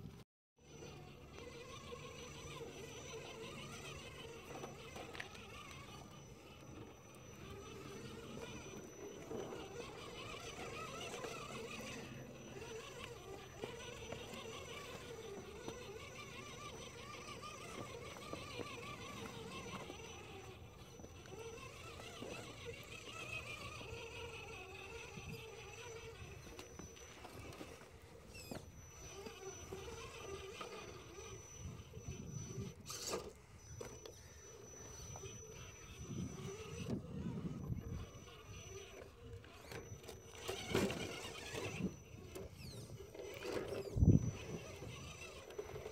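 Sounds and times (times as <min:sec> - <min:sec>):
rc car motor whining: 0:00.0 - 0:45.9
faint steady high tone: 0:00.6 - 0:45.9.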